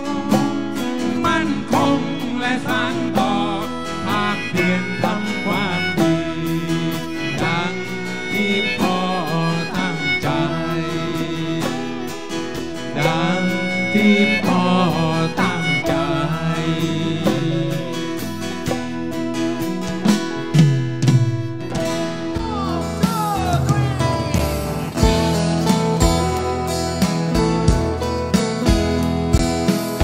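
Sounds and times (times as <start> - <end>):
person singing: 0.0 - 19.9, 21.7 - 29.0
acoustic guitar: 0.0 - 30.0
drums and percussion: 0.0 - 30.0.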